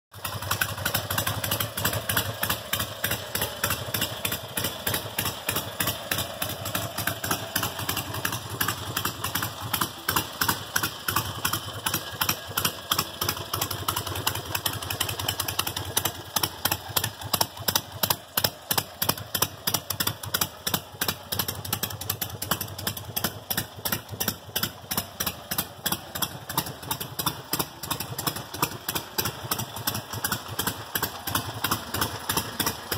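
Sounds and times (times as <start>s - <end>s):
motorcycle engine idling: 0.1s - 32.9s.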